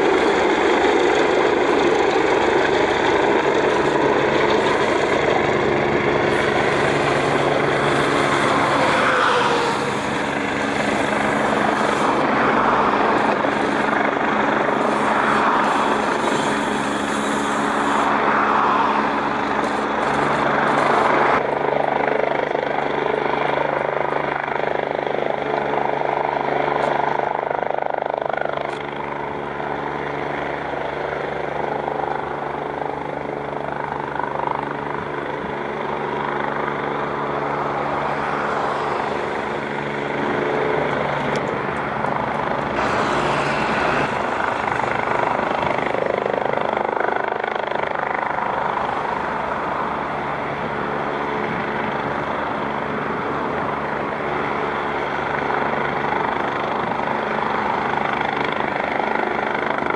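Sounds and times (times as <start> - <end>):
helicopter hovering: 0.0 - 59.9.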